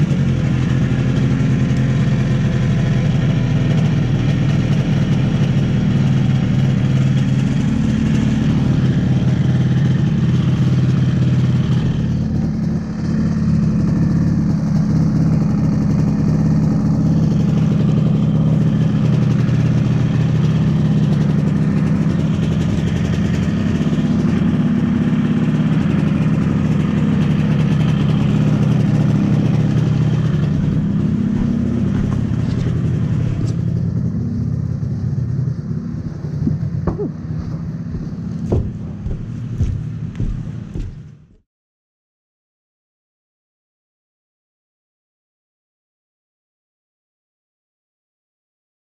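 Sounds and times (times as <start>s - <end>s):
two-stroke snowmobile engine running: 0.0s - 41.4s.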